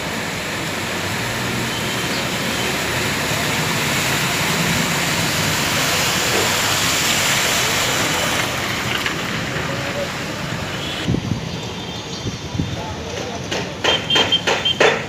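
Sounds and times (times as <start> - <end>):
car splashing through floodwater: 0.0 - 14.8.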